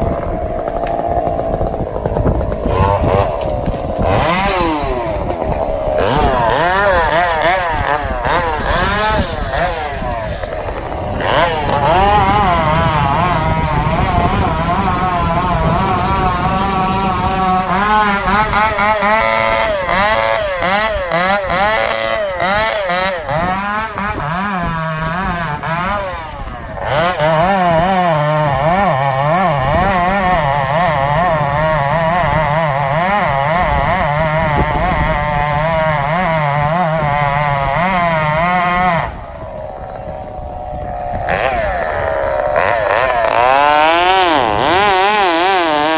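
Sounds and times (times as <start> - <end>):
chainsaw cutting: 0.0 - 45.9.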